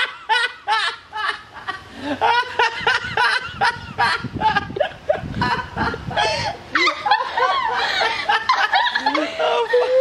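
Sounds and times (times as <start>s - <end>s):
people laughing hard: 0.0s - 10.0s.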